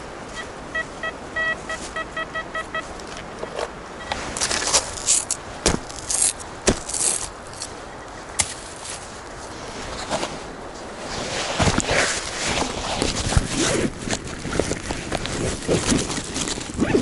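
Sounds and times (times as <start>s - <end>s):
forest ground rustling and scraping: 2.8s - 17.0s.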